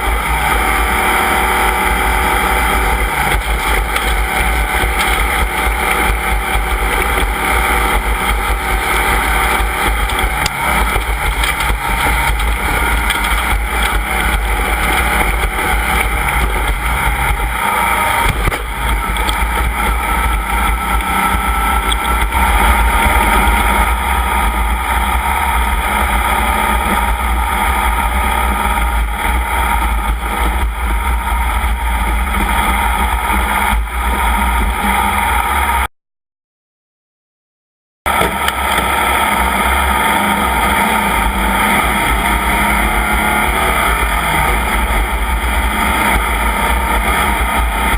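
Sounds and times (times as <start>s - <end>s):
off-road vehicle engine driving: 0.0s - 35.9s, 38.1s - 47.9s.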